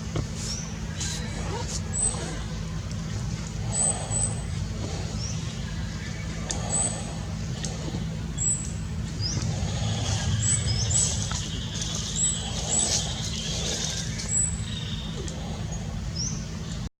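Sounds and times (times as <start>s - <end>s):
steady low rumble: 0.0s - 16.9s.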